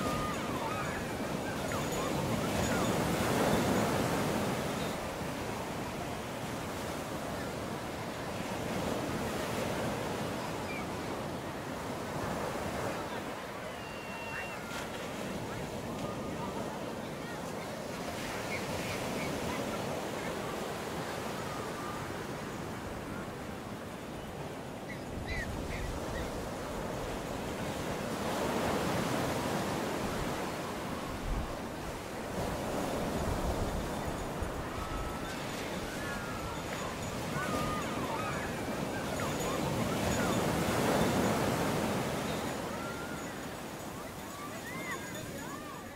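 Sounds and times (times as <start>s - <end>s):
sea surf breaking: 0.0s - 24.0s, 25.2s - 45.9s.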